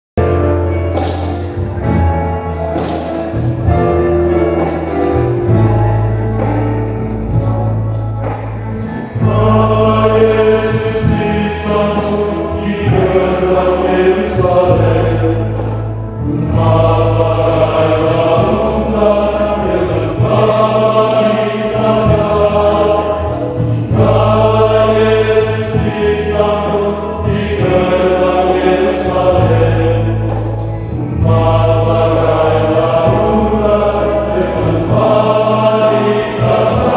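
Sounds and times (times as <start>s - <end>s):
instrumental accompaniment: 0.2s - 36.9s
male choir singing a hymn: 2.8s - 36.9s.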